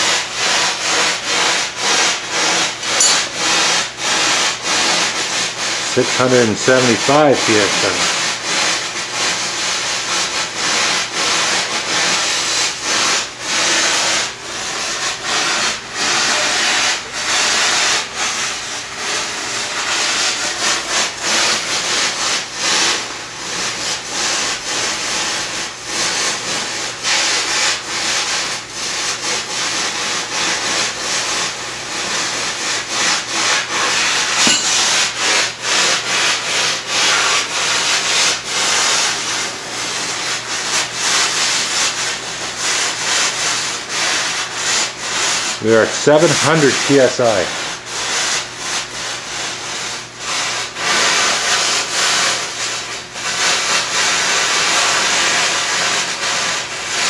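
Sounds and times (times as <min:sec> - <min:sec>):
pipe-freeze kit hissing: 0:00.1 - 0:48.6.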